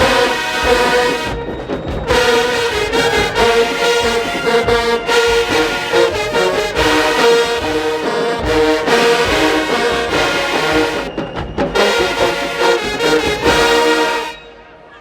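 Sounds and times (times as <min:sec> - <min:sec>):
brass section playing chords: 0:00.0 - 0:11.2, 0:11.8 - 0:14.9
marching percussion hits: 0:00.0 - 0:14.6.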